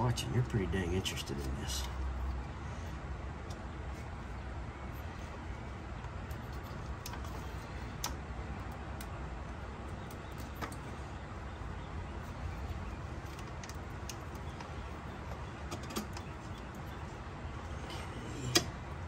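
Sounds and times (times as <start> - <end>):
steady low background hum: 0.0 - 19.0.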